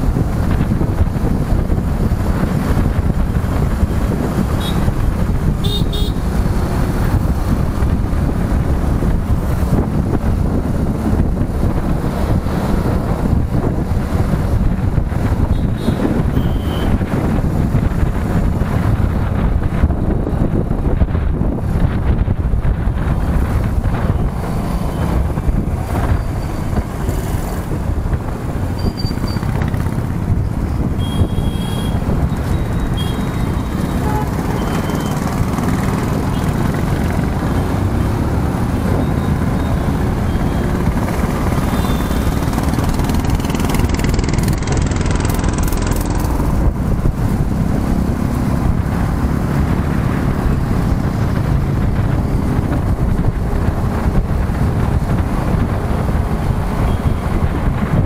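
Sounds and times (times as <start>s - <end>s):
motorcycle engine: 0.0s - 58.0s
road noise: 0.0s - 58.0s
wind rushing over microphone: 0.0s - 58.0s.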